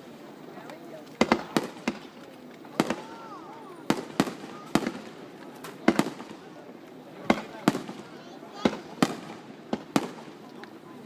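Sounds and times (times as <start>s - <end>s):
fireworks bangs: 1.0s - 11.0s.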